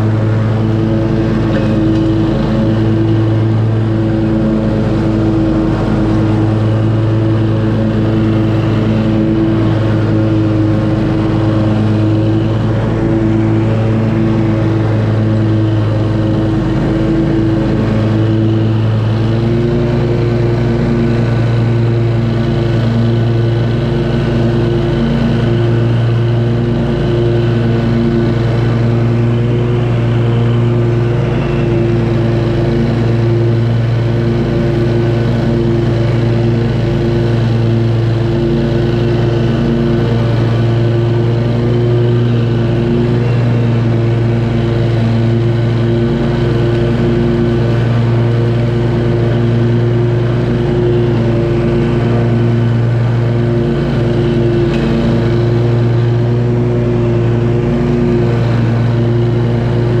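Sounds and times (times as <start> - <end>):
lawn mower engine running: 0.0 - 60.0.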